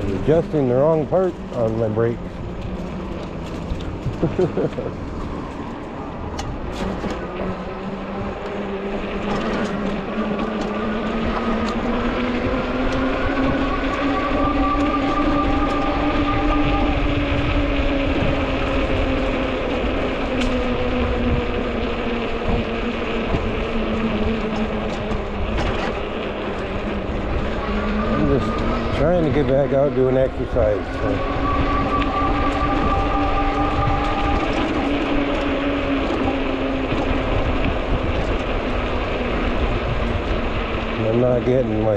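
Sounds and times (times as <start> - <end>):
electric bike motor hum: 0.0 - 41.9
wind and road rushing: 0.0 - 41.9.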